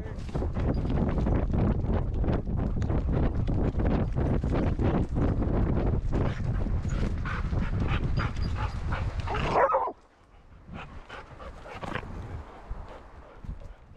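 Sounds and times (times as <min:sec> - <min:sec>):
camera rubbing and wind noise: 0:00.0 - 0:13.9
paws thudding on ground: 0:00.2 - 0:10.0, 0:10.7 - 0:13.9.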